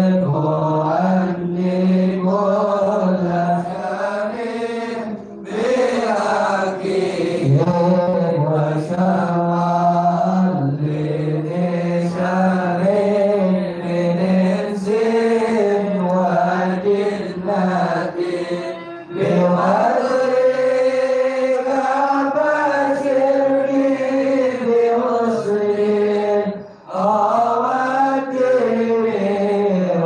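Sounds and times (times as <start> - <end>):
man chanting melodically: 0.0 - 30.0.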